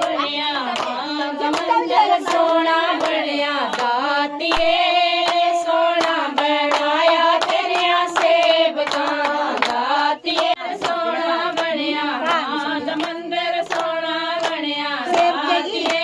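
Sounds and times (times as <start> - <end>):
rhythmic hand clapping: 0.0 - 16.0
voices singing devotional song: 0.0 - 16.0.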